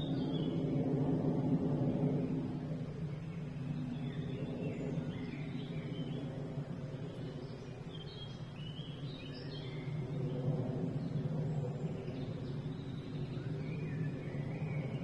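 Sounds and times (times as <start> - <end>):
small birds twittering: 0.0 - 1.0, 2.0 - 15.0
steady low rumble: 0.0 - 15.0.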